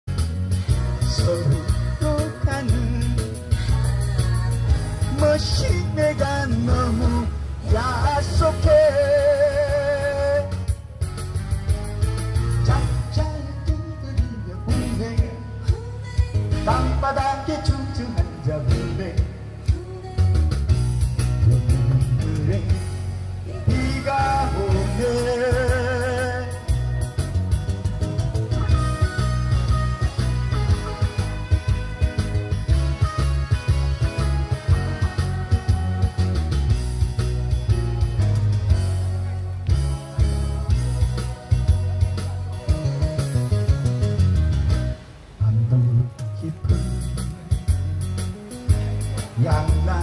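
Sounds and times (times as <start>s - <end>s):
acoustic guitar: 0.0s - 50.0s
live band music over speakers: 0.0s - 50.0s.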